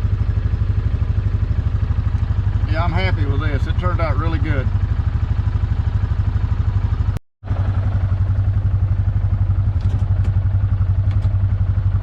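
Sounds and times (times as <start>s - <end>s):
engine idling with rapid pulse: 0.0s - 12.0s.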